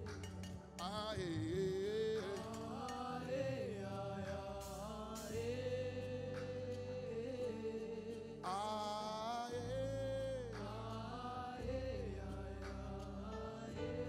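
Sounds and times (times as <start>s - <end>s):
person singing gospel: 0.0s - 14.0s.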